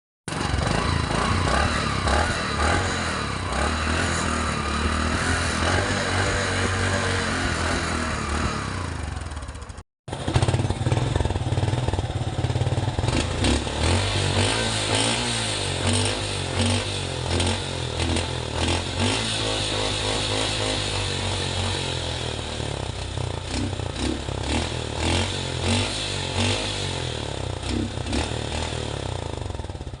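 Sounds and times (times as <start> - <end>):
engine revving: 0.3 - 30.0.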